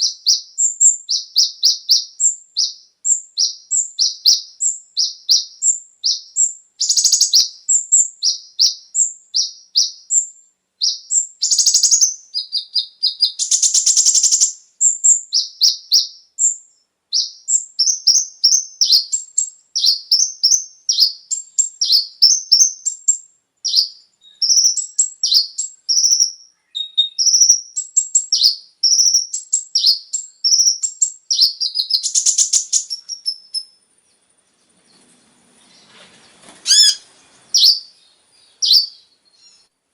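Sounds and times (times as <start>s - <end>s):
buzzy bird trills: 0.0s - 16.6s, 17.2s - 33.7s, 36.4s - 38.0s
bird chirping and twittering: 0.0s - 39.7s.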